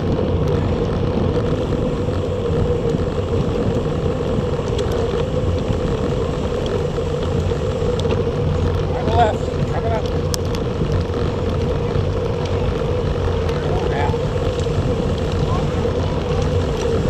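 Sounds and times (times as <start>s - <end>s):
constant hum: 0.0s - 17.0s
wind and road noise: 0.0s - 17.0s.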